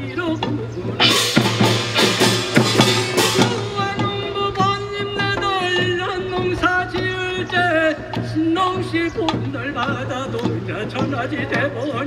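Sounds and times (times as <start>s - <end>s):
gongs and drums clashing: 0.4s - 12.0s.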